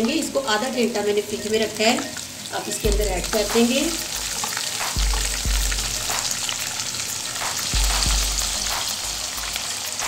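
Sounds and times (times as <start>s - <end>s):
hot oil sizzling: 0.0s - 10.0s.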